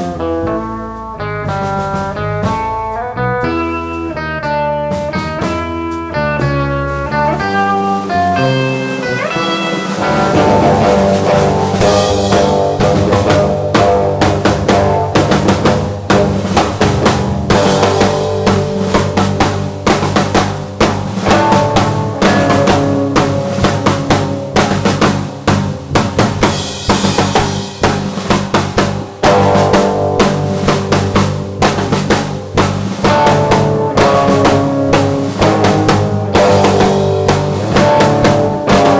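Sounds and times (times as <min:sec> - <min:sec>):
drum kit steady beat: 0:00.0 - 0:38.9
guitar playing: 0:00.0 - 0:38.9.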